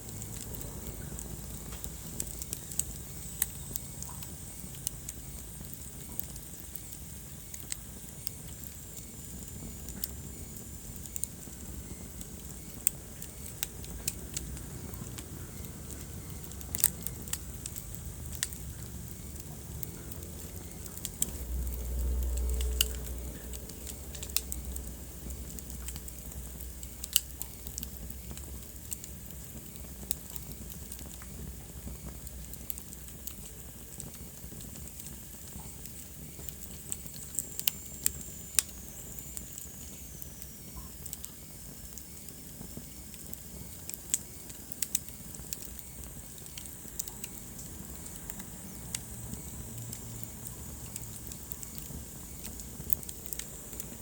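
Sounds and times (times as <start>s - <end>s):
fire crackles and pops: 0.0s - 54.0s
wood fire rumble and hiss: 0.0s - 54.0s.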